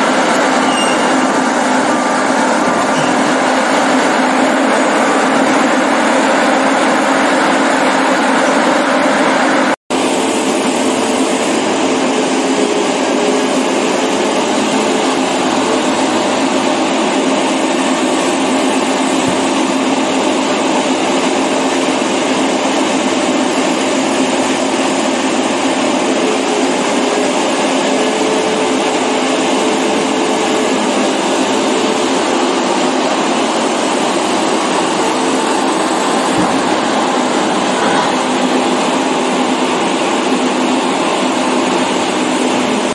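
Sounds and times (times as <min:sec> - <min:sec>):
excavator engine and tracks: 0:00.0 - 0:42.9.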